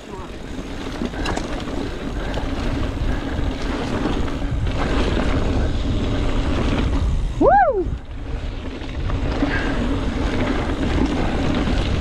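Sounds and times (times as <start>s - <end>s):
bike tyres rolling on dirt: 0.0s - 12.0s
wind on microphone: 0.0s - 12.0s.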